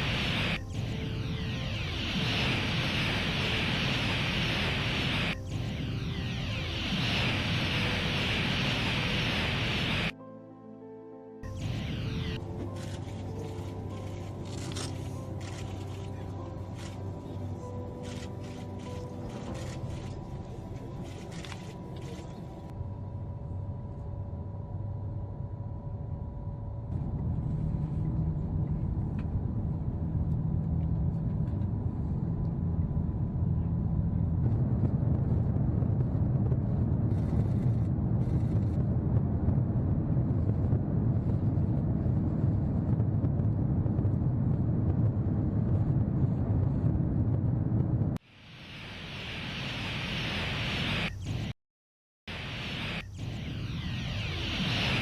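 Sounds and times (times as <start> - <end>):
faint steady whine: 0.0 - 10.2, 11.5 - 51.6, 52.3 - 55.0.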